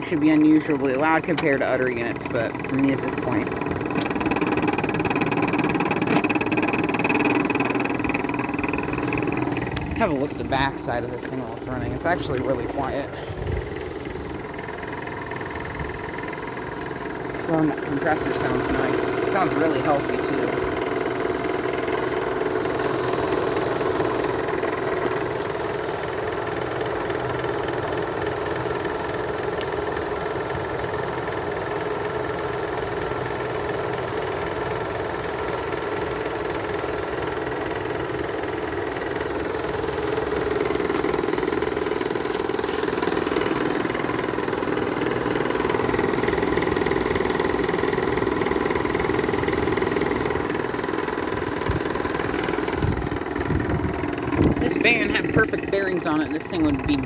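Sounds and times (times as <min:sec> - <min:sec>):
fan motor loose-bearing noise: 0:00.0 - 0:34.5, 0:36.5 - 0:57.0
air conditioner compressor humming: 0:00.0 - 0:57.0.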